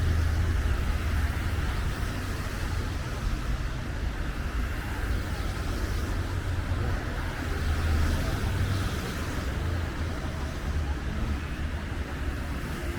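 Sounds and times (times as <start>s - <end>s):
rumble of passing cars: 0.0s - 12.9s.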